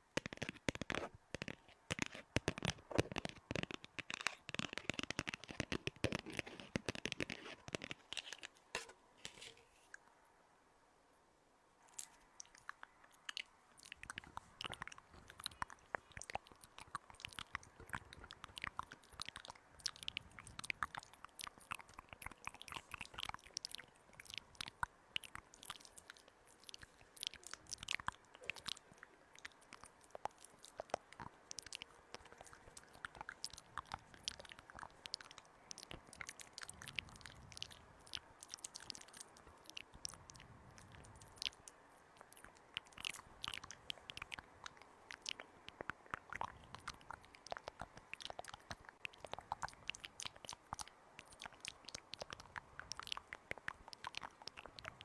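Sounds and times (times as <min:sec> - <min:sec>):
crisp crunches and clicks: 0:00.0 - 0:10.2, 0:11.8 - 0:55.0.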